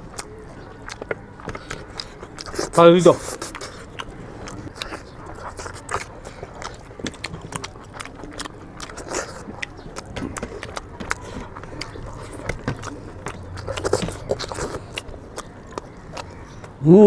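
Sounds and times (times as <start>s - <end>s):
wet chewing: 0.0s - 16.9s
mouth clicks: 0.0s - 17.0s.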